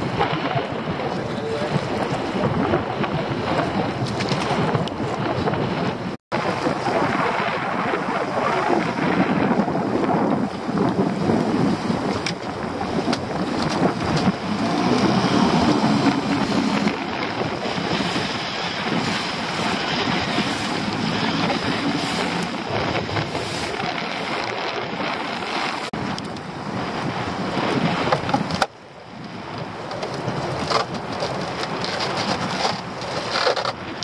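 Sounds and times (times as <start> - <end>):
choppy sea slapping a boat: 0.0 - 34.0
wind buffeting the microphone: 0.0 - 34.0.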